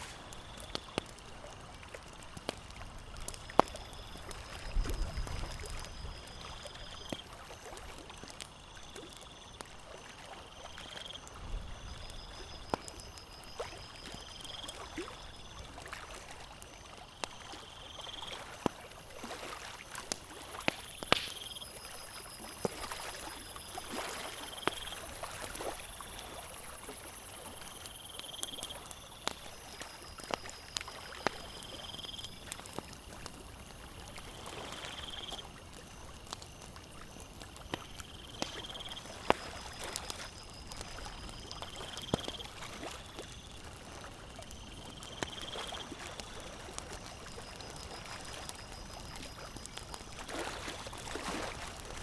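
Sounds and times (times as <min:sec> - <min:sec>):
campfire crackling and popping: 0:00.0 - 0:52.0
water lapping at shore: 0:00.0 - 0:52.0.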